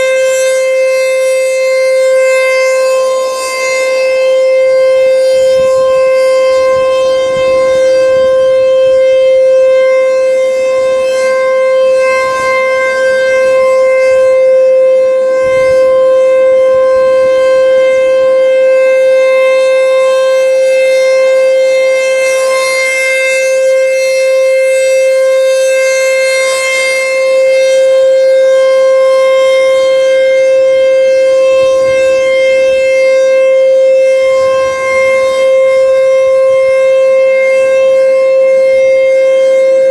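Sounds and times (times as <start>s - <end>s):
rotating siren alert tone: 0.0s - 39.9s.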